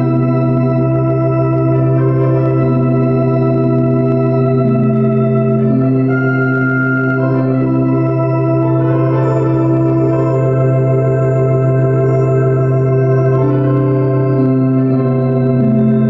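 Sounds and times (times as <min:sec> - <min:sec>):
slow organ-like music: 0:00.0 - 0:16.0.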